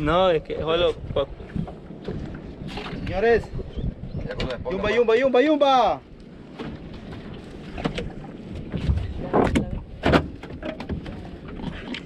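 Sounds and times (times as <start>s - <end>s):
wind on microphone: 0.0s - 5.3s, 5.9s - 12.0s
water moving around a boat: 0.0s - 12.0s.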